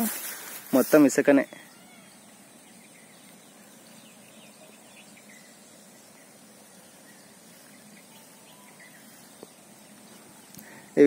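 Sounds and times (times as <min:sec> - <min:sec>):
insects droning: 0:00.0 - 0:11.0
bird chirps: 0:01.2 - 0:11.0.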